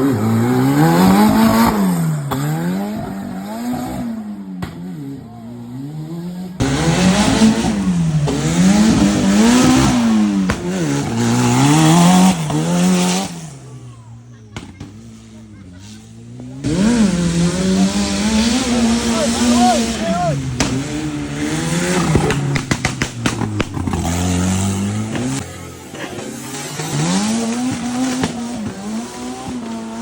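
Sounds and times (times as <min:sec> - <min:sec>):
buggy engine revving: 0:00.0 - 0:30.0.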